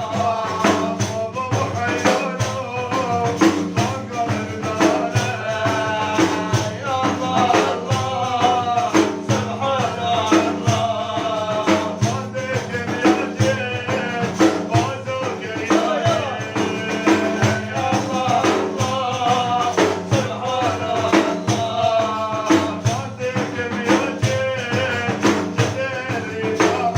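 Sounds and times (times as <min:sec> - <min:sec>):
frame drums beating: 0:00.0 - 0:26.9
man singing melismatic praise song: 0:00.0 - 0:26.9.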